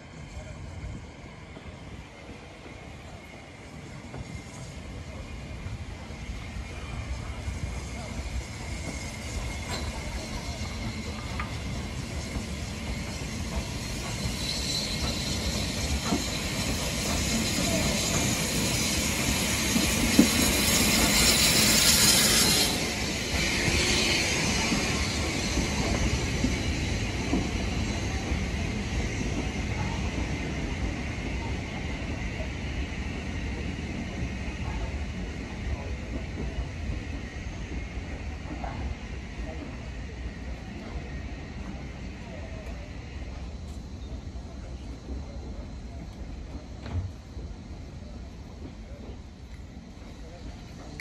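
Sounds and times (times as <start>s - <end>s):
train passing: 0.0s - 51.0s.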